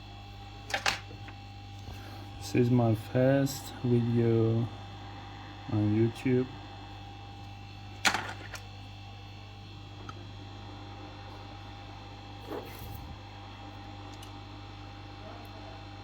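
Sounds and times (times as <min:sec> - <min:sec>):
low mains hum: 0:00.0 - 0:16.0.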